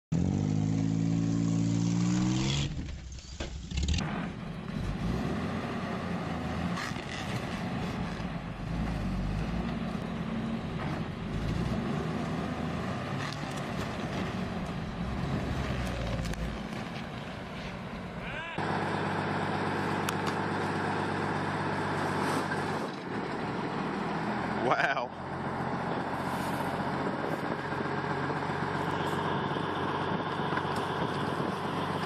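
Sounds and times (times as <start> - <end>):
truck engine revving: 0.1 - 32.0
heavy truck engine under load: 0.2 - 32.0.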